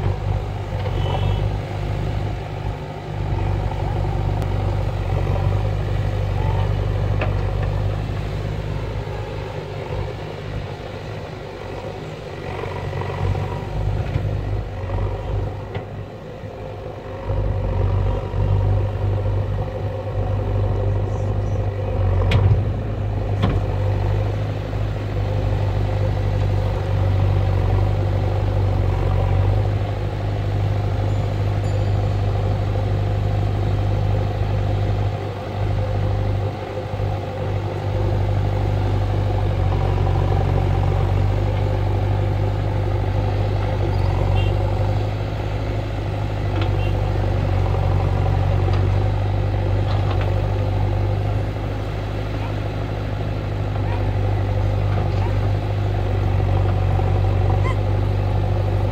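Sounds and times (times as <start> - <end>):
backhoe diesel engine running: 0.0 - 58.9.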